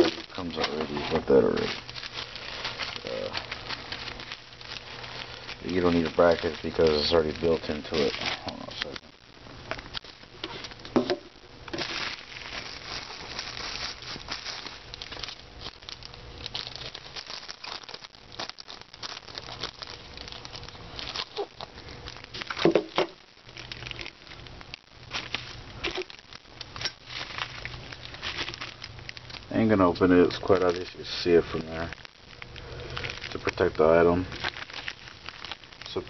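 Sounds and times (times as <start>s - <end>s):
package rustling: 0.0s - 9.1s, 9.7s - 36.0s
bubble wrap crinkling: 0.0s - 36.0s.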